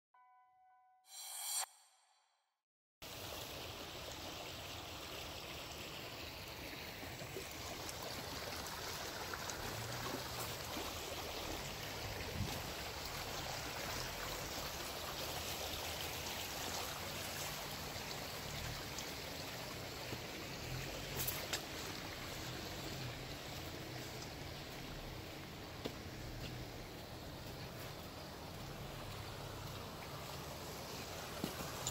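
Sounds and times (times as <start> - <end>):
water rushing and trickling: 3.0 - 31.9.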